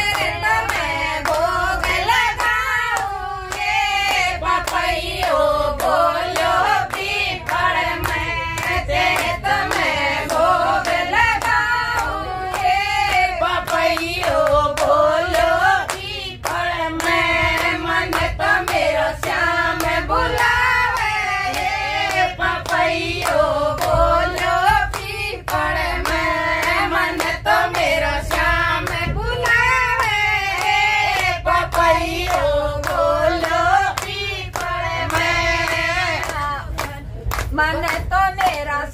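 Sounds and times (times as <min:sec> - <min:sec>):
hand clapping: 0:00.0 - 0:38.8
group of voices singing: 0:00.0 - 0:38.9
low rumble of moving train: 0:00.0 - 0:38.9.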